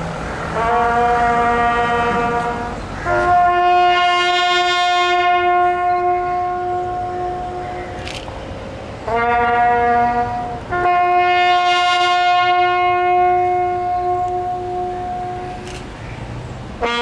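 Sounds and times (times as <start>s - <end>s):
bugle call: 0.6s - 8.3s, 9.0s - 15.8s, 16.8s - 17.0s.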